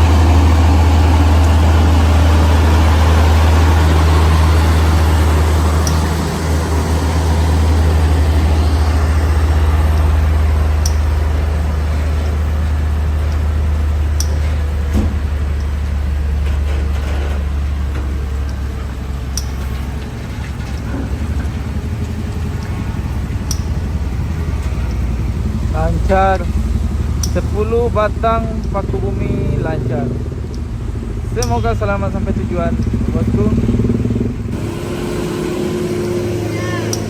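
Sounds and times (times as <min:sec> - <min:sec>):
truck diesel engine droning: 0:00.0 - 0:37.0.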